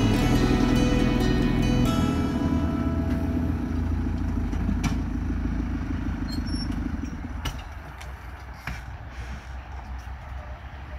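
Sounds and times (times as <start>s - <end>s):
diesel engine running: 0.0s - 10.9s.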